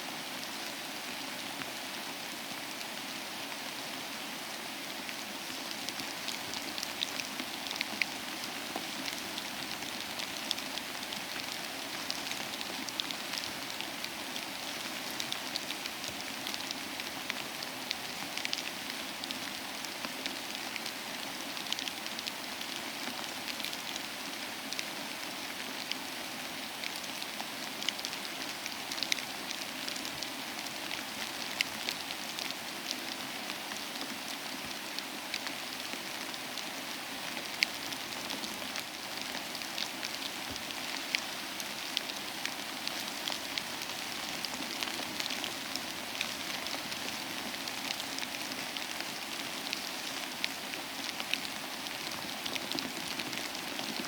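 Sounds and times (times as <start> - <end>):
rain pattering: 0.2 - 54.0.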